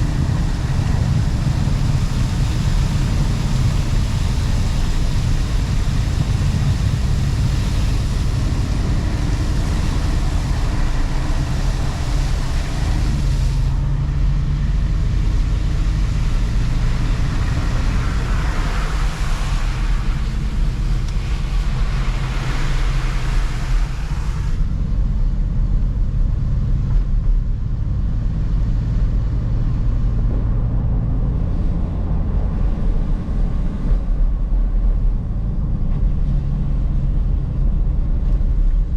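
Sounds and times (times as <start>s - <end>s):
car engine and tyres rumbling: 0.0s - 38.9s
road noise hiss: 0.0s - 38.9s.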